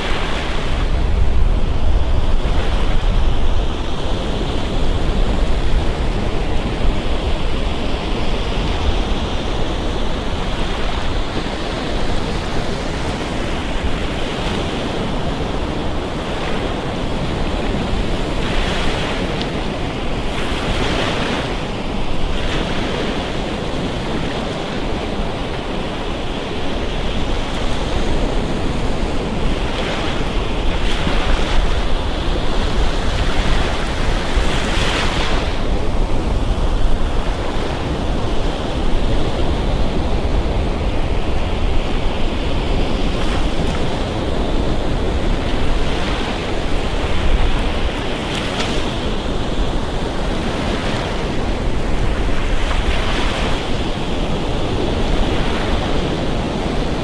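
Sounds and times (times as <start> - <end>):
surf washing up a beach: 0.0 - 57.0
wind buffeting microphone: 0.0 - 57.0.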